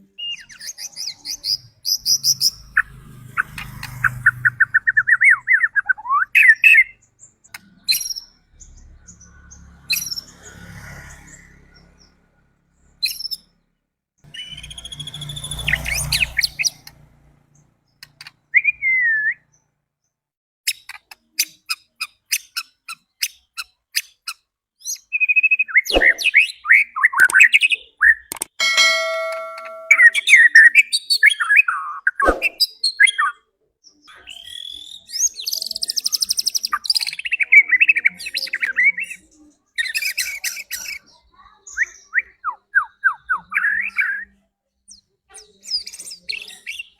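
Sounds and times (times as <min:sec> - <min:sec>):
songbird singing whistles and chatter: 0:00.0 - 0:02.6, 0:03.5 - 0:10.4, 0:14.3 - 0:16.9, 0:18.0 - 0:19.6, 0:20.7 - 0:46.9.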